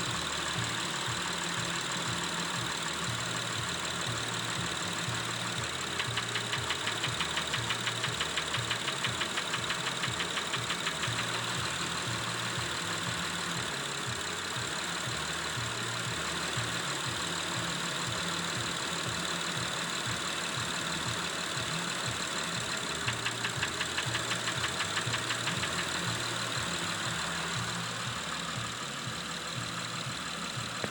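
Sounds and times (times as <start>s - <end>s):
engine idling with knocking: 0.0s - 30.9s.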